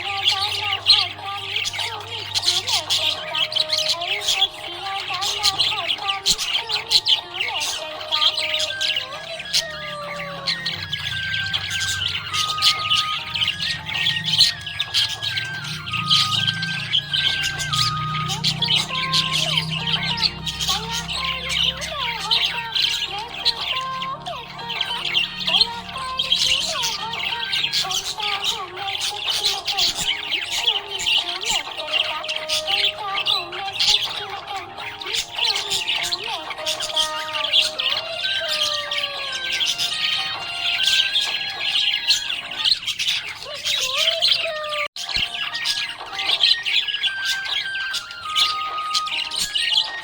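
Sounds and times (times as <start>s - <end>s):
background music with steady bass: 0.0s - 43.1s
budgerigars chirping and chattering: 0.0s - 50.0s.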